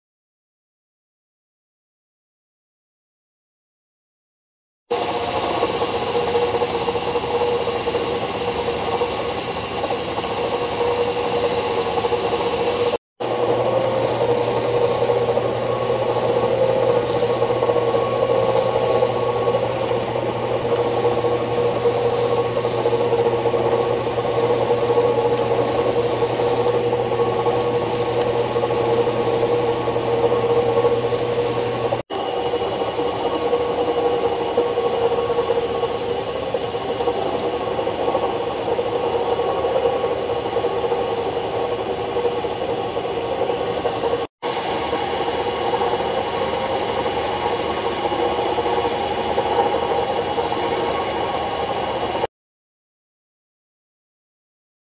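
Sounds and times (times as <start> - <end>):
metal lathe hum and whine: 4.9 - 52.3.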